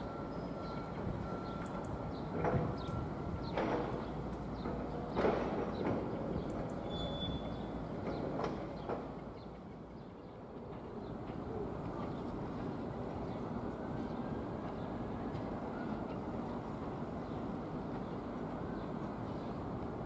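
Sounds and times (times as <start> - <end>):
distant train rumble: 0.0 - 20.0.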